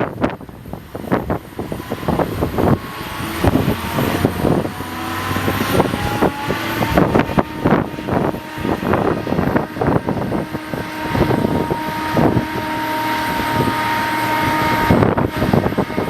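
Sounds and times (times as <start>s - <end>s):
jet engine whine spooling up: 0.0s - 16.0s
wind buffeting microphone: 0.0s - 16.0s.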